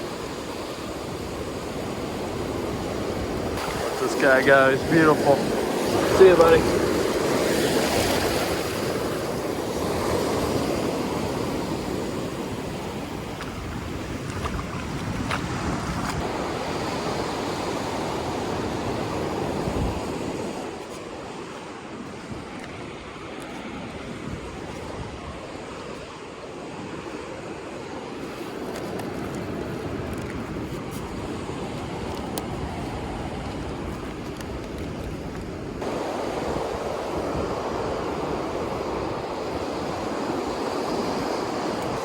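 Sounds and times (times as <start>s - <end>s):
ocean surf breaking: 0.0s - 42.0s
wind: 0.0s - 42.0s.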